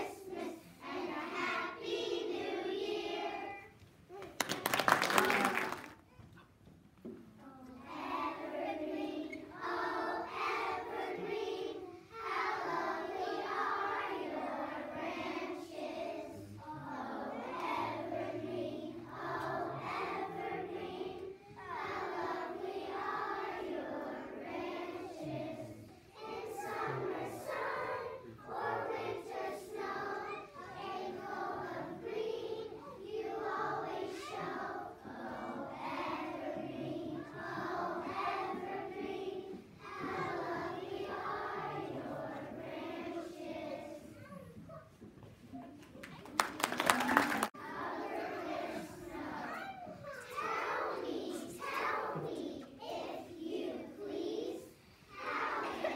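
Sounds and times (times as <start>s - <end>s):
children's choir singing: 0.0s - 3.8s, 7.8s - 44.3s, 46.4s - 55.9s.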